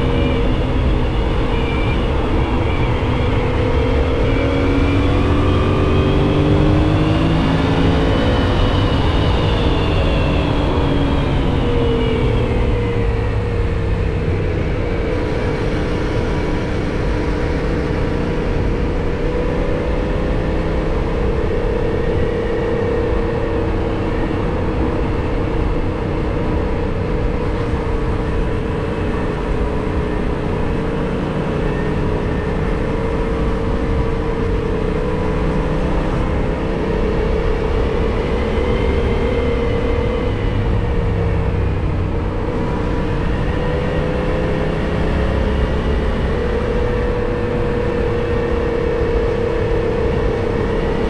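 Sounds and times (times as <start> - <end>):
motorcycle engine cruising: 0.0 - 51.0
wind rush: 0.0 - 51.0.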